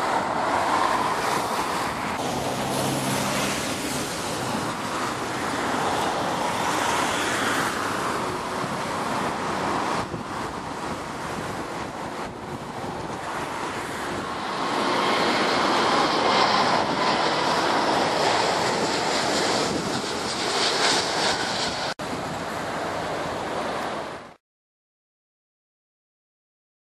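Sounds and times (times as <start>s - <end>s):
wind buffeting microphone: 0.0s - 23.2s
jet airliner passing low: 0.0s - 24.4s.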